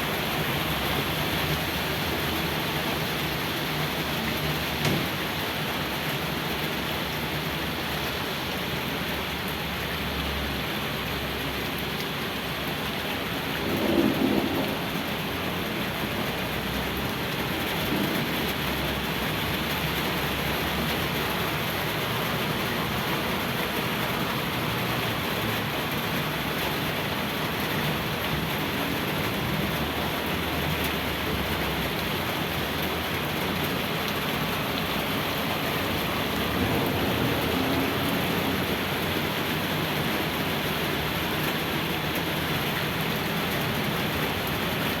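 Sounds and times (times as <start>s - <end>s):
rain falling: 0.0s - 45.0s.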